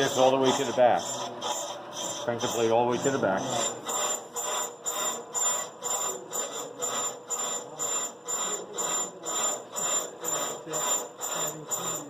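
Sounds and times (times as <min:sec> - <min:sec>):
brake lathe rubbing scrape: 0:00.0 - 0:12.0.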